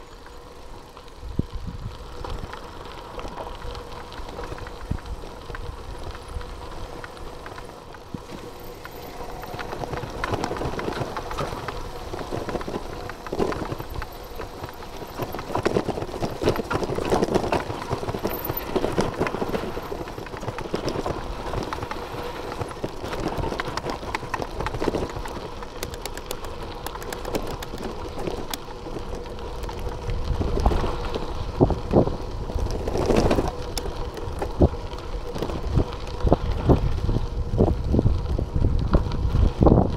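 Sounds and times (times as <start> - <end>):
bike rattling: 0.0 - 39.9
tyres crunching on gravel: 0.0 - 39.9.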